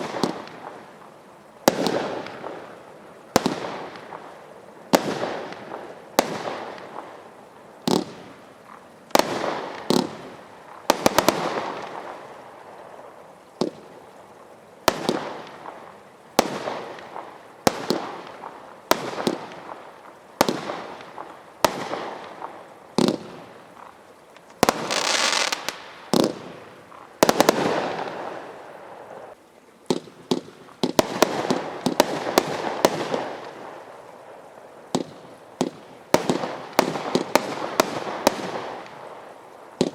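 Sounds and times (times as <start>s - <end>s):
fireworks banging and crackling: 0.0s - 39.9s
hissing firework burst: 0.0s - 39.9s.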